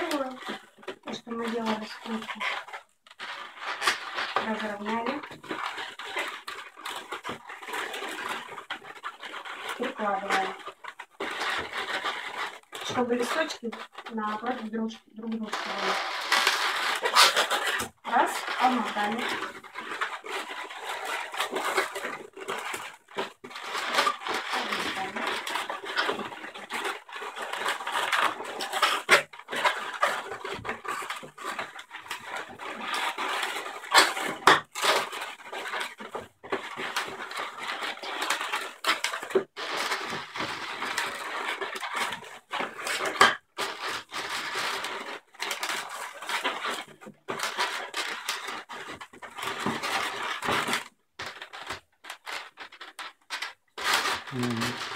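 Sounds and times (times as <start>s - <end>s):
balloons squeaking and rubbing: 0.0s - 54.9s.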